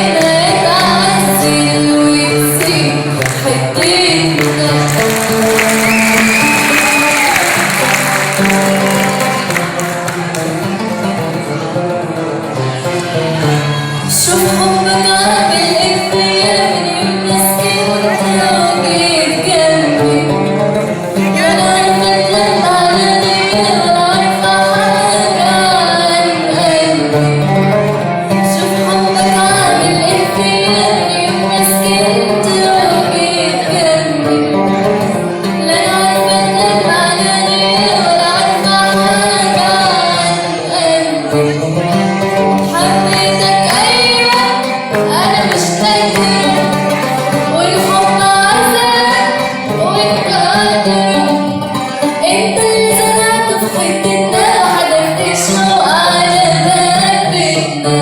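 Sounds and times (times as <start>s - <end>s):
woman singing: 0.0s - 11.0s, 13.4s - 58.0s
instrumental accompaniment: 0.1s - 24.5s, 25.2s - 52.9s.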